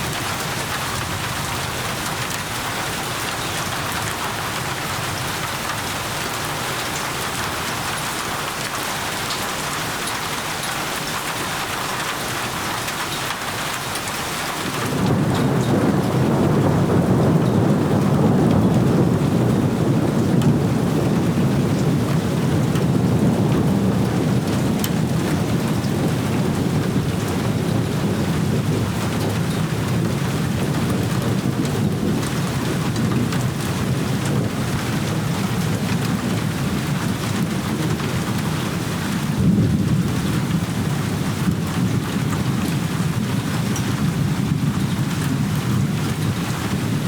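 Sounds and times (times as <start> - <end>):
rolling thunder: 0.0 - 8.0, 14.5 - 47.0
heavy rain: 0.0 - 47.0.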